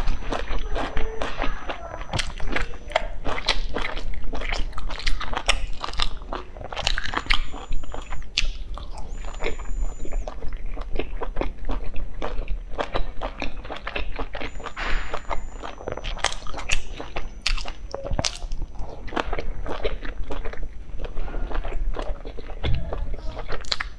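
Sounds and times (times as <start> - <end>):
wet chewing and mouth clicks: 0.0 - 23.9.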